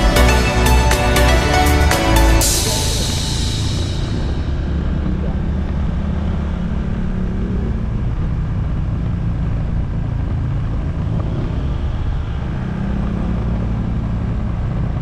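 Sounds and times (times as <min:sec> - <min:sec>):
road and wind noise: 0:01.5 - 0:15.0.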